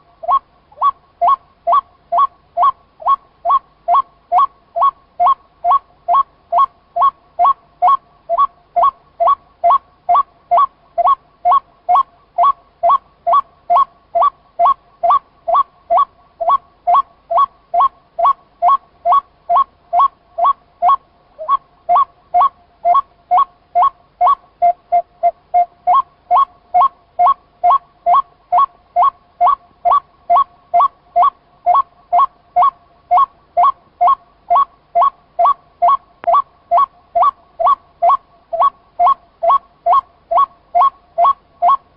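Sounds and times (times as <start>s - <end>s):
waterhen calling kuk: 0.0s - 41.9s.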